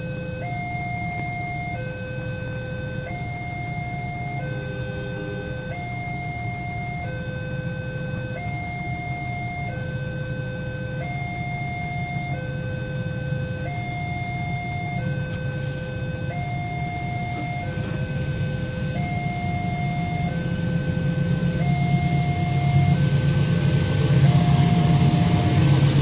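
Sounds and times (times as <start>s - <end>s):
low rumble of vehicle engines: 0.0s - 26.0s
two-tone warning siren: 0.0s - 26.0s.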